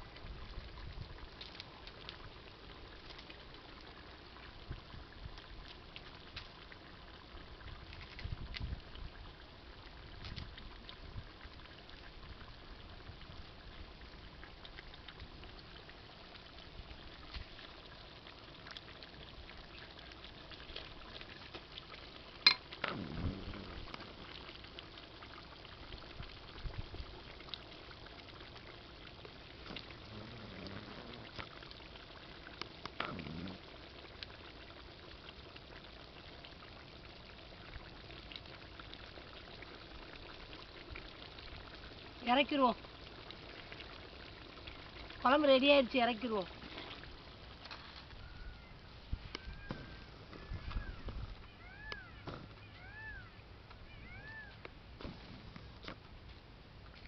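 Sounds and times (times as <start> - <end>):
curry bubbling in a pot: 0.0 - 57.0.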